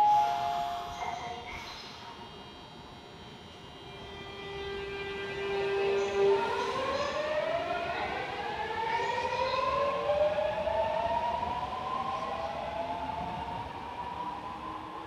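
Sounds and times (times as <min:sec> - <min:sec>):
subway train inverter whine: 0:00.0 - 0:15.0.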